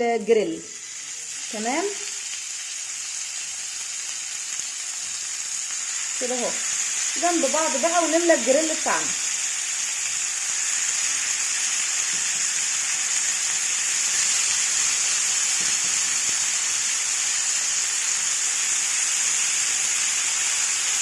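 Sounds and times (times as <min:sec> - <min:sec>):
meat sizzling on a grill pan: 0:00.0 - 0:21.0.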